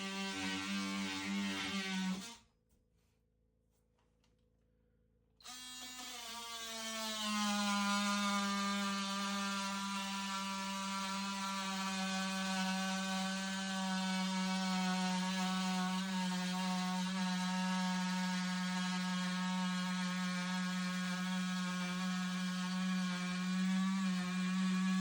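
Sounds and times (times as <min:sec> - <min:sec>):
power tool motor humming: 0:00.0 - 0:02.4, 0:05.4 - 0:25.0.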